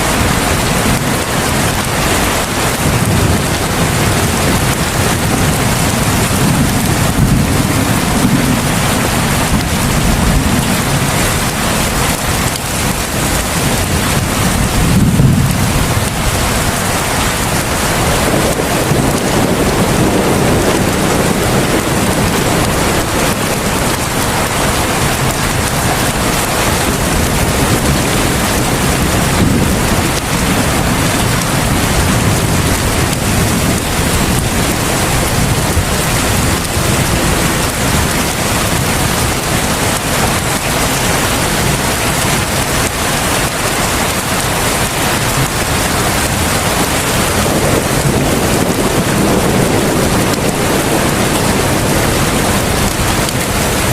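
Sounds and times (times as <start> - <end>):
heavy rain pouring: 0.0 - 53.9
low rumbles of thunder: 0.0 - 53.9.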